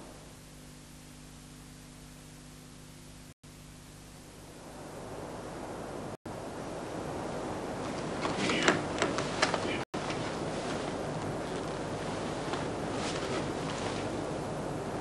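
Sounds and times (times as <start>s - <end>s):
low electrical hum: 0.0s - 15.0s
tape hiss: 0.0s - 15.0s.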